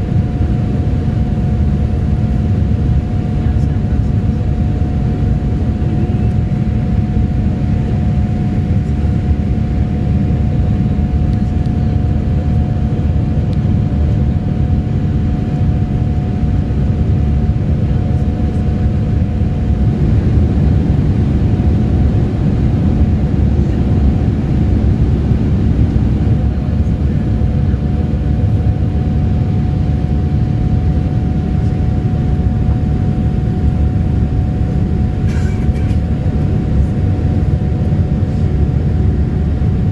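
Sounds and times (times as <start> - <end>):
airflow rushing in cabin: 0.0 - 39.9
jet engines at climb power: 0.0 - 39.9
steady whine: 0.0 - 39.9.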